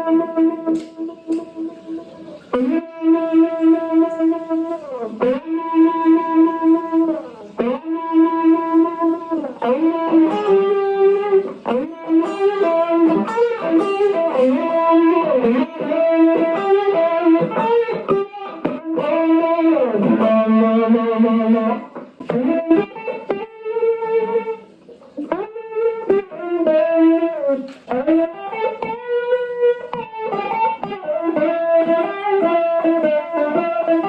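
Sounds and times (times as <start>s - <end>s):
electric guitar lead with bends: 0.0s - 34.0s.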